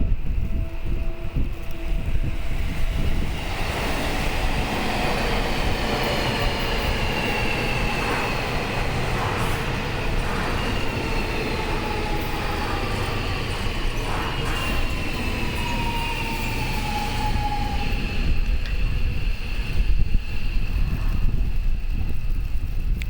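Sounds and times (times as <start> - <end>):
train braking whine: 0.0 - 22.1
train wheels rumbling: 0.0 - 23.0.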